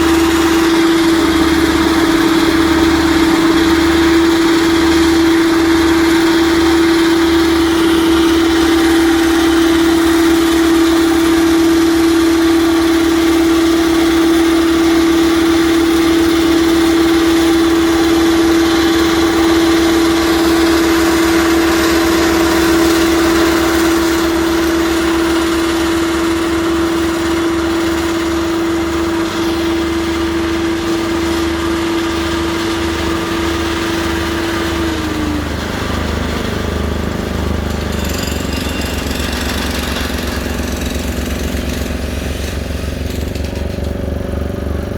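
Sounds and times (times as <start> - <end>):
heavy machine engine humming: 0.0 - 44.9.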